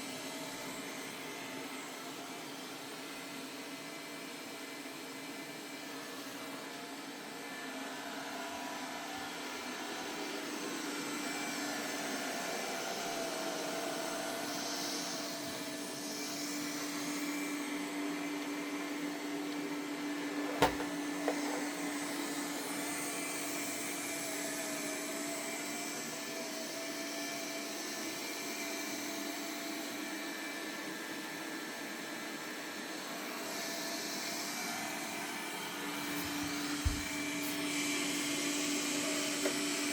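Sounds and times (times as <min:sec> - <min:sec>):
robot vacuum running: 0:00.2 - 0:39.9.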